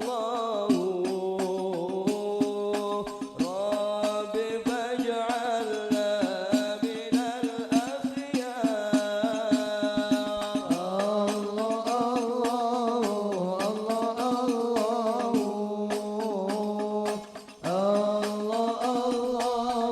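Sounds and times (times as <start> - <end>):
hand-struck frame drums: 0.0 - 19.9.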